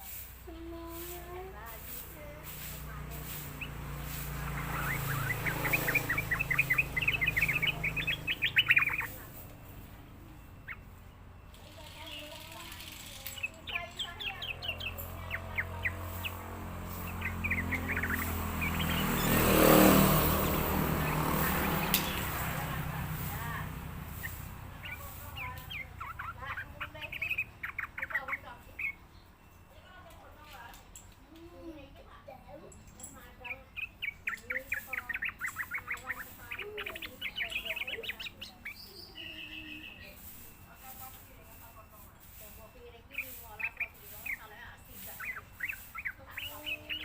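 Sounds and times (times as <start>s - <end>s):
bird chirping: 0.0s - 47.0s
bulbul rapid chattering call: 0.9s - 29.2s, 32.5s - 47.0s.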